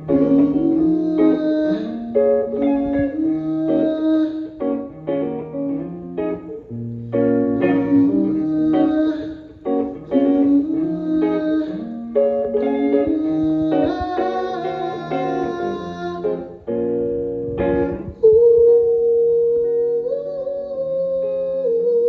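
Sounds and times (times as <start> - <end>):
guitar playing chords: 0.0 - 22.0.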